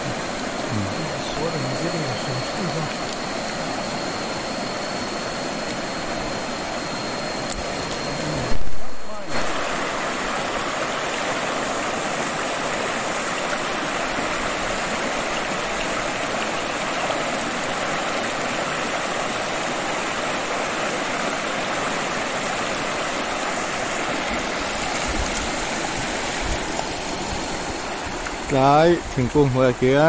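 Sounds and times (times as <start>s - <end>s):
river rushing over rapids: 0.0s - 29.0s.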